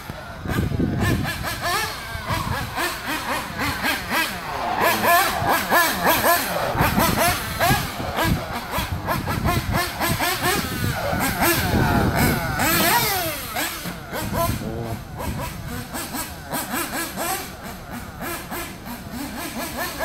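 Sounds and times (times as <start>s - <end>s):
rc car engine revving: 0.0s - 20.0s.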